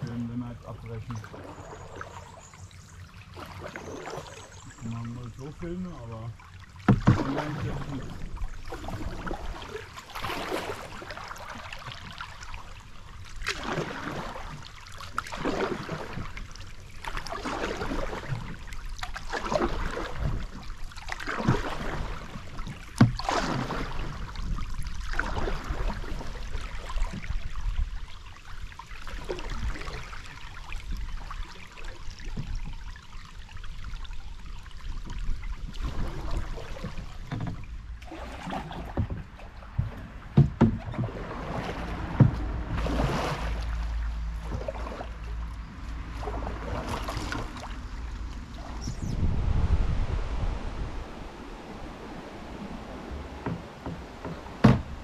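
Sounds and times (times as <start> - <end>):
canoe paddle splashing in water: 1.0 - 55.0.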